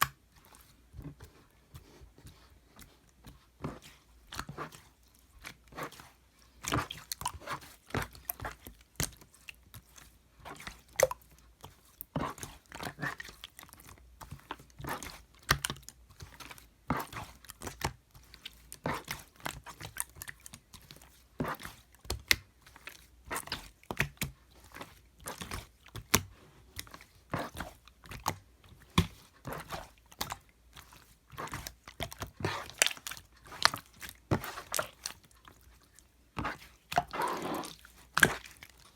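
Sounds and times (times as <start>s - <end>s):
slime squished by hand: 6.6s - 38.9s.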